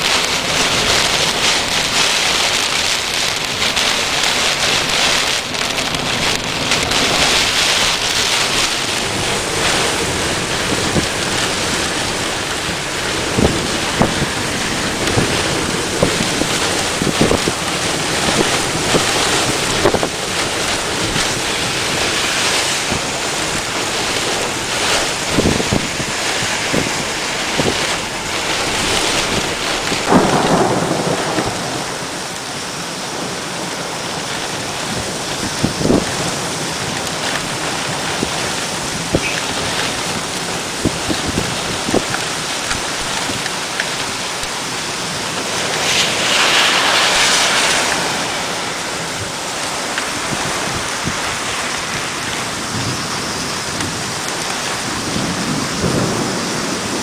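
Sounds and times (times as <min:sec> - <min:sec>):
heavy rain falling: 0:00.0 - 0:57.0
wind buffeting microphone: 0:00.0 - 0:57.0.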